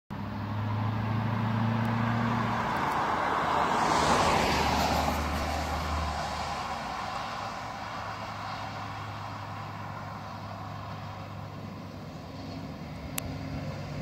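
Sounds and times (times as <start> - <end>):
low engine hum: 0.1 - 14.0
car driving past: 0.2 - 14.0.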